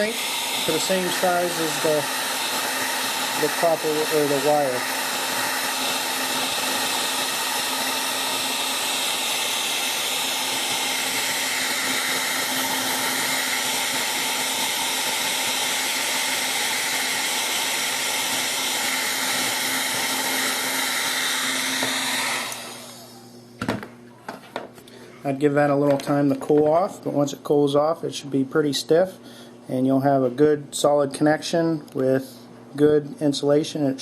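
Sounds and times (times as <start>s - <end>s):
heat gun fan humming: 0.0s - 34.0s.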